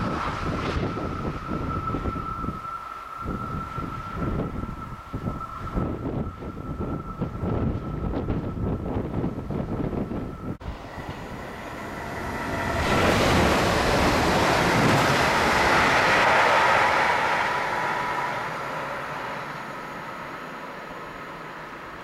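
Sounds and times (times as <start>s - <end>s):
wind buffeting microphone: 0.0s - 20.3s
train passing with rushing rumble: 0.0s - 22.0s.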